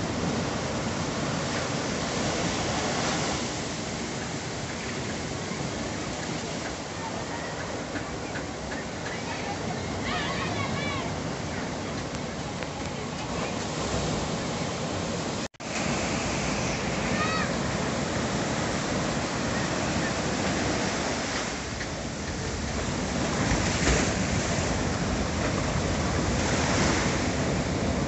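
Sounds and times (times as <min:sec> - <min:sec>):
ocean surf breaking on rocks: 0:00.0 - 0:28.0.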